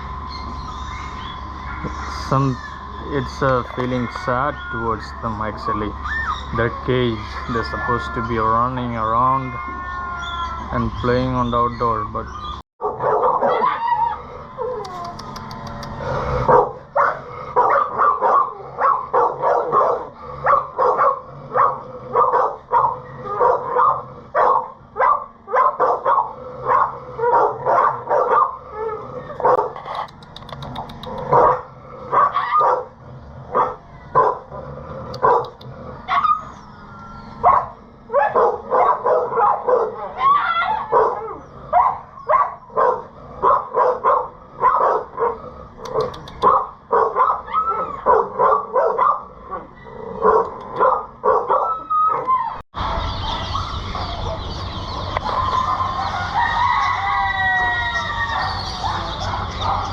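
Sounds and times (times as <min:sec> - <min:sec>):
dogs barking and yipping: 0:00.0 - 0:59.9.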